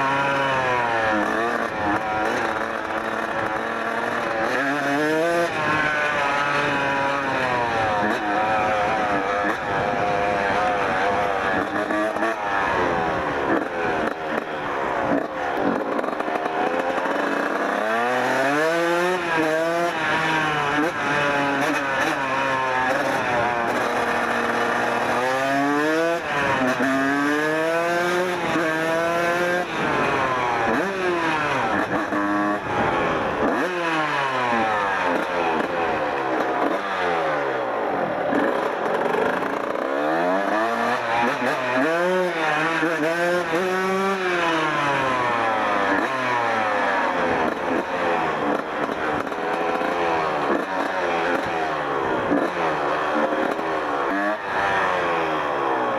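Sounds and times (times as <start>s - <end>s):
two-stroke motorcycle engine revving: 0.0s - 55.9s.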